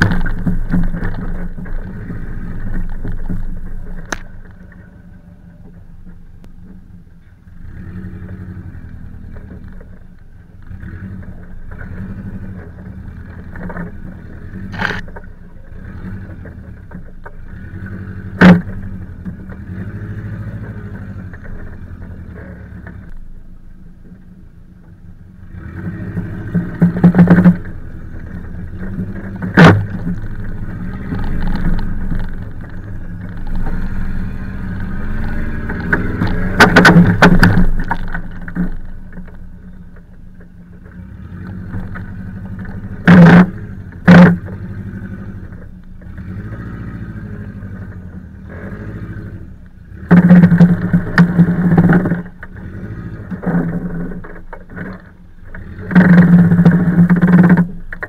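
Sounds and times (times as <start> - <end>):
sharp knocks over bumps: 0.0 - 4.9, 8.1 - 23.3, 24.0 - 58.0
car engine revving: 0.0 - 58.0.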